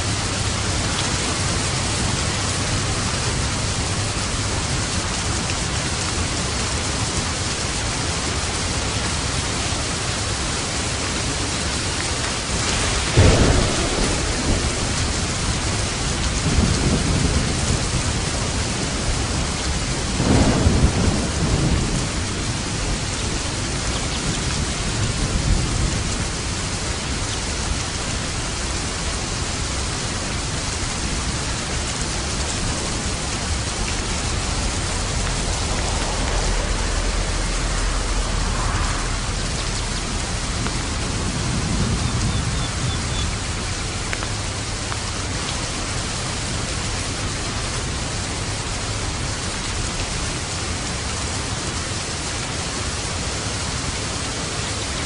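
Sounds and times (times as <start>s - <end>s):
thunder rumbling: 0.0s - 52.5s
heavy rain falling: 0.0s - 55.0s.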